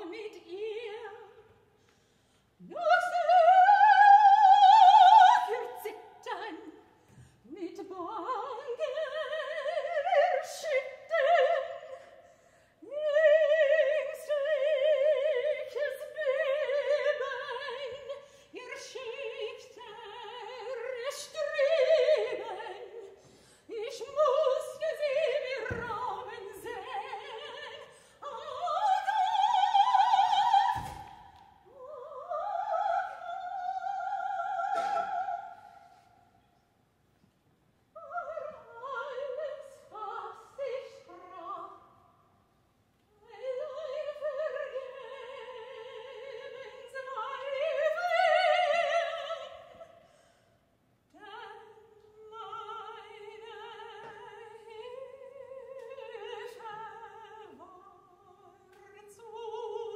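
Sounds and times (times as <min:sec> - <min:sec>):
woman singing operatically: 0:00.0 - 0:01.6, 0:02.6 - 0:06.9, 0:07.5 - 0:12.2, 0:12.8 - 0:35.6, 0:38.0 - 0:41.9, 0:43.1 - 0:50.0, 0:51.1 - 0:59.9.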